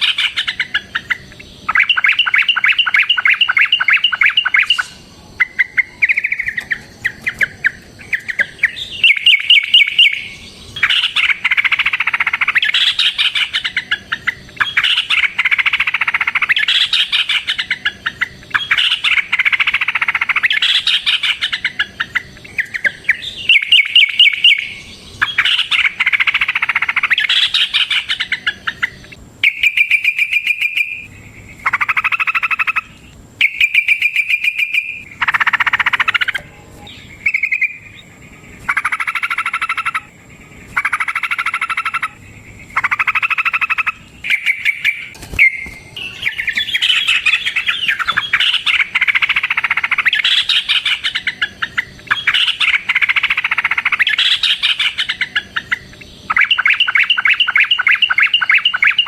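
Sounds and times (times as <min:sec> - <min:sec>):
bulbul chattering song: 0:00.0 - 0:59.0.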